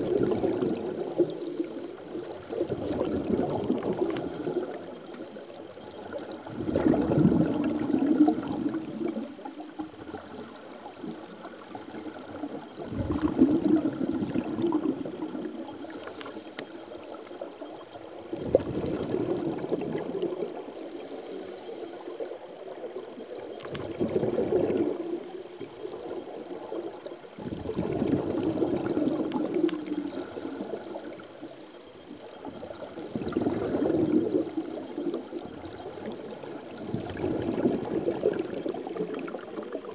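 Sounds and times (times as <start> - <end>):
exhaled air bubbling underwater: 0.0 - 39.9.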